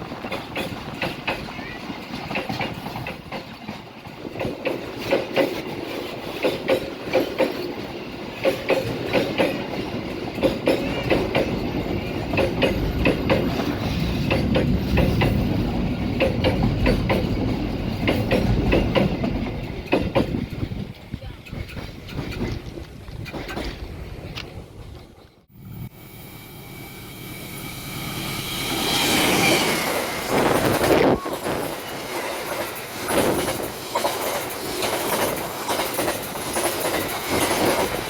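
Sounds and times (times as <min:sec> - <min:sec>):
train wheels clacking on rails: 0:00.0 - 0:25.4, 0:28.1 - 0:38.0
train rumble: 0:00.0 - 0:38.0.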